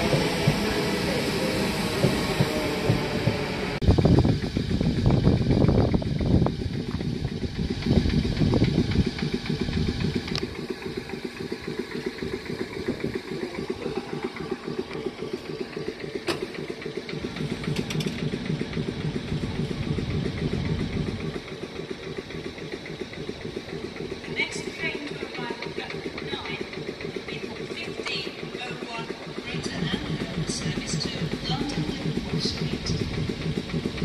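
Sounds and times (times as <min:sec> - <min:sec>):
train engine idling: 0:00.0 - 0:34.0.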